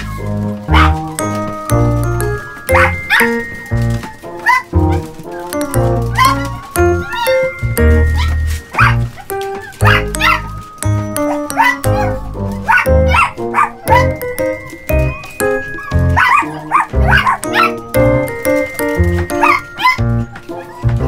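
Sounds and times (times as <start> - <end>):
background music: 0.0 - 21.0
small dogs yapping: 0.0 - 21.0.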